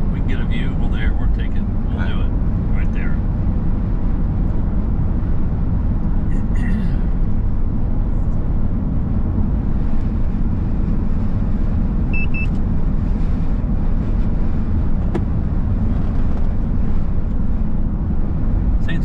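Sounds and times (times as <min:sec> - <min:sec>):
road rumble inside vehicle: 0:00.0 - 0:19.0.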